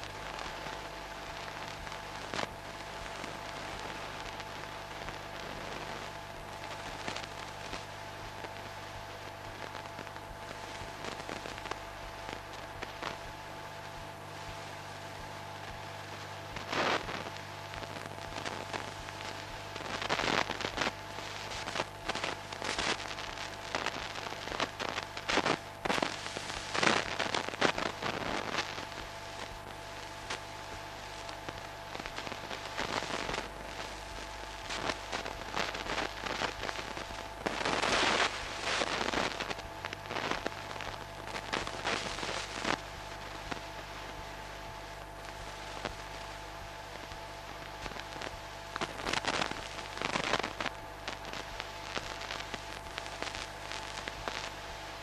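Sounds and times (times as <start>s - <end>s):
crackling and popping: 0.0s - 55.0s
electrical hum: 0.0s - 55.0s.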